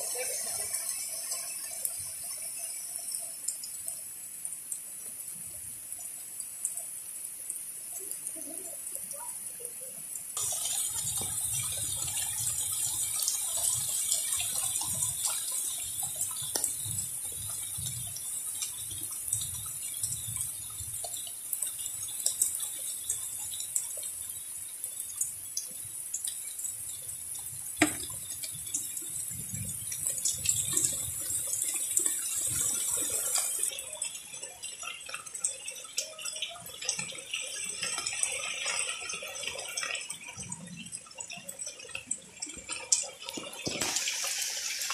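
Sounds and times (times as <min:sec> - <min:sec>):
heavy rain pouring: 0:00.0 - 0:03.2, 0:07.8 - 0:23.8, 0:27.8 - 0:44.9
raindrop ticks: 0:00.1 - 0:44.9.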